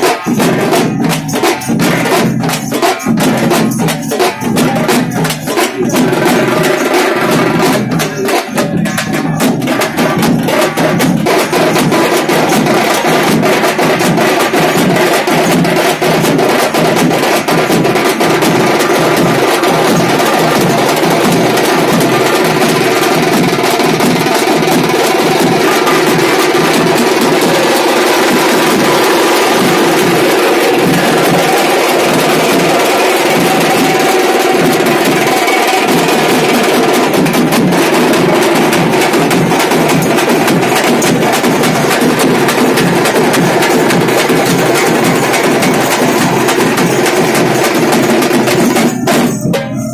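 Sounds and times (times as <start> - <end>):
drum band drumming: 0.0 - 49.9.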